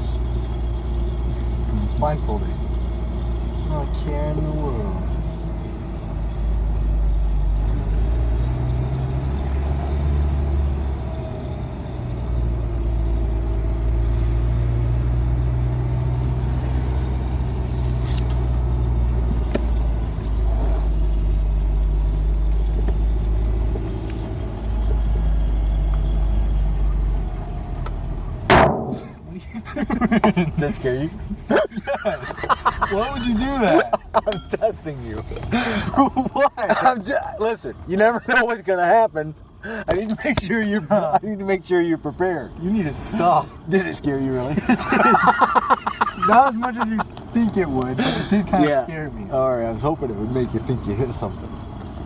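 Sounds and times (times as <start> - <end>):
truck engine and road noise: 0.0 - 52.0.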